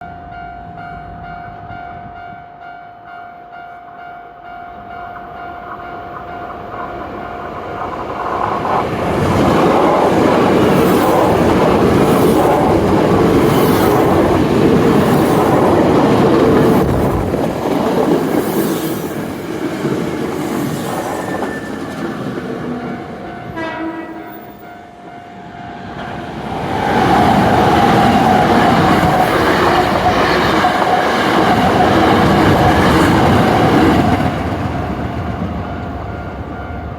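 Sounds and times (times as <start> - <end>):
electric train passing: 0.0 - 36.9.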